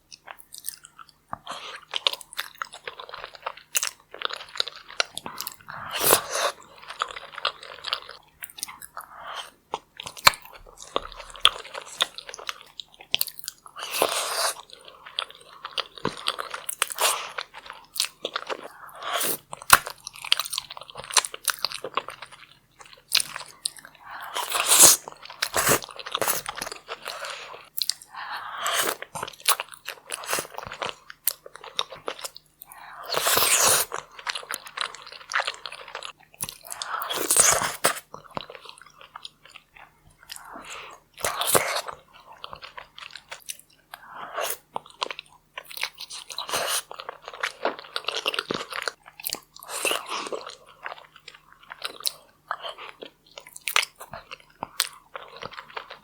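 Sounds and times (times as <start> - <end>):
wet chewing and crunching: 0.0 - 56.0.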